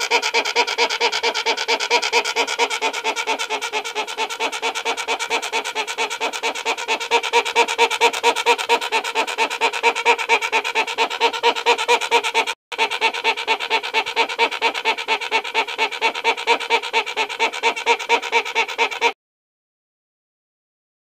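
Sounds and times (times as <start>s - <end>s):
hornbill calling: 0.0s - 19.2s.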